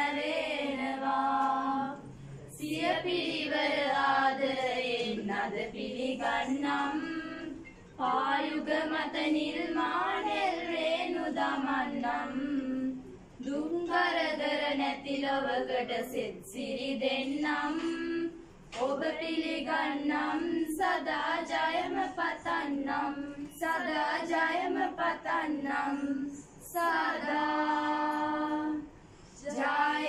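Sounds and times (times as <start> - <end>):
girls singing in unison: 0.0 - 30.0.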